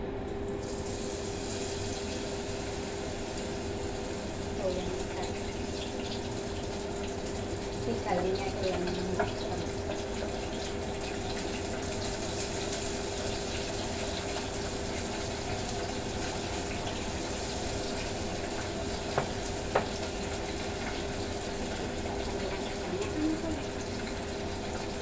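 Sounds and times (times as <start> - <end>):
oil sizzling: 0.6 - 25.0.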